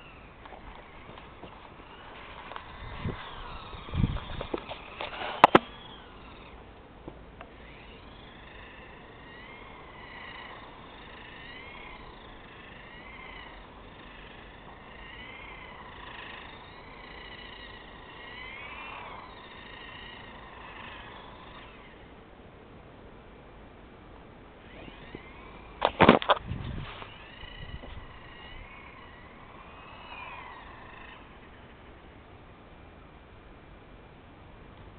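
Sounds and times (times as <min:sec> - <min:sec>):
toy car electric motor whining: 0:00.0 - 0:06.8, 0:07.4 - 0:22.3, 0:24.6 - 0:32.2.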